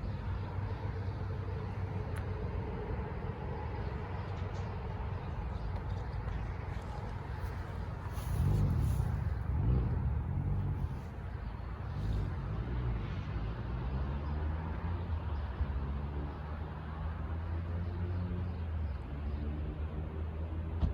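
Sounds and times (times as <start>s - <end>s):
vehicle engine hum: 0.0s - 20.9s.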